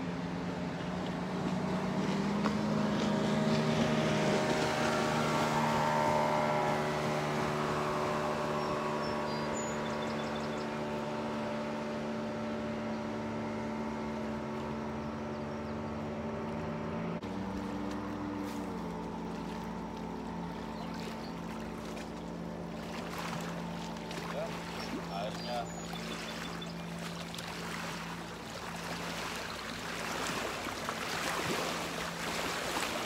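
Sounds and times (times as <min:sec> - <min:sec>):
motorboat engine drone: 0:00.0 - 0:33.0.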